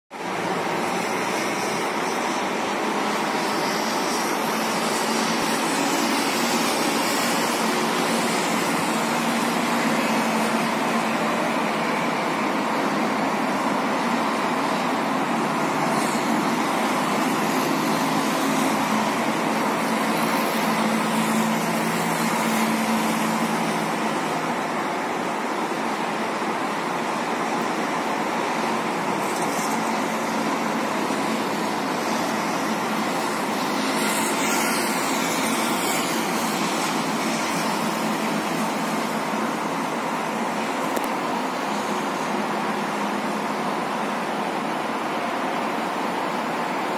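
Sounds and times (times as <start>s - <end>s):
highway traffic: 0.1s - 46.9s.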